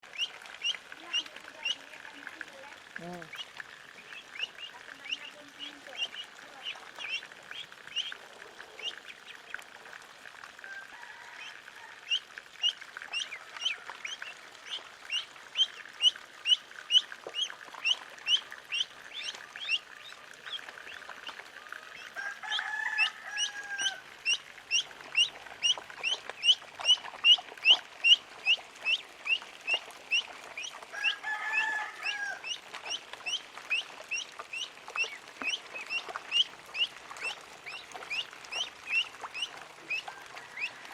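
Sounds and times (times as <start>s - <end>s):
ducklings peeping: 0.1s - 2.3s, 3.0s - 8.2s, 8.8s - 9.6s, 11.4s - 40.9s.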